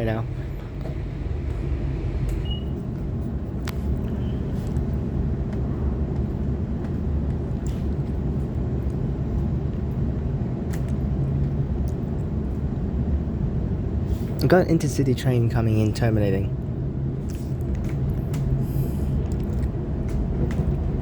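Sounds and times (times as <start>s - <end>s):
electric train low rumble: 0.0s - 21.0s.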